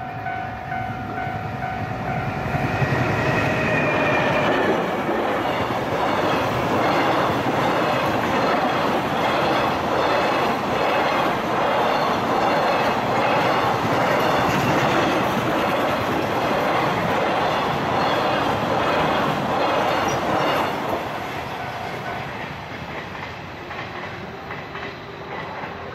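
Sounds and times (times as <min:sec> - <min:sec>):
freight train wheels rumbling: 0:00.0 - 0:25.9.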